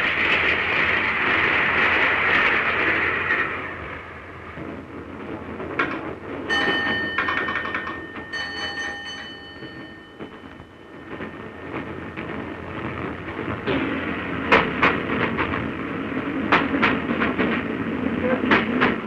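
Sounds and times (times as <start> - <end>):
steam train rumbling: 0.0 - 19.0.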